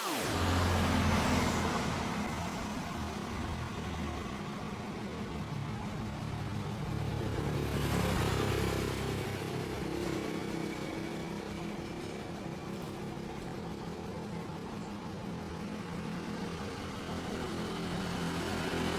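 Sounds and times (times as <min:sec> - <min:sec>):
motorcycle engine running: 0:00.3 - 0:18.9.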